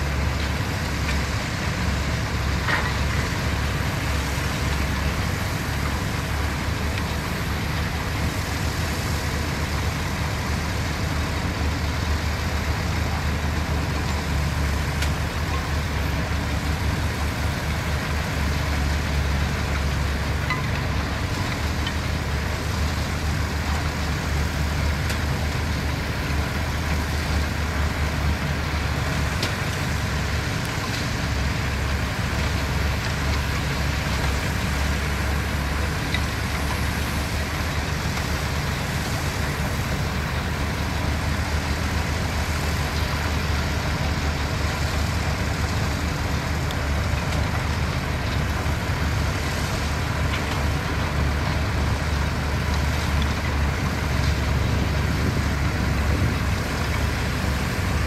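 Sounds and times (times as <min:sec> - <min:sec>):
heavy machinery diesel engines droning: 0:00.0 - 0:58.0.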